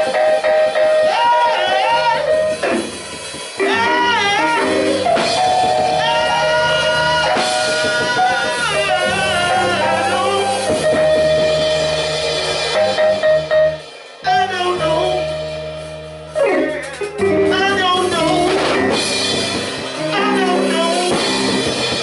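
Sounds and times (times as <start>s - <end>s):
church band with drums and guitar: 0.0s - 22.0s.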